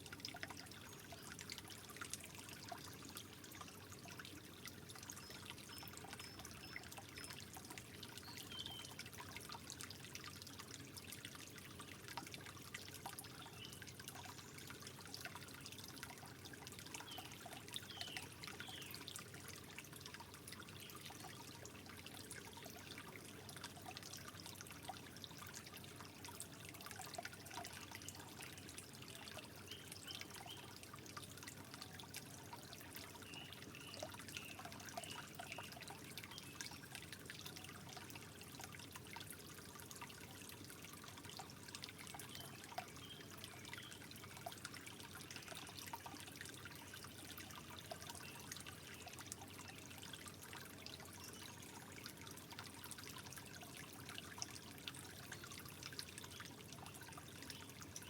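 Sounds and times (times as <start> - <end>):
water trickling and dripping: 0.0 - 58.0.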